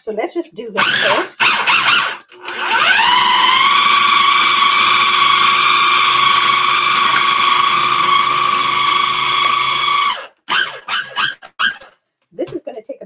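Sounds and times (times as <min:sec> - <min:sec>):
food processor motor whine: 0:00.8 - 0:11.9.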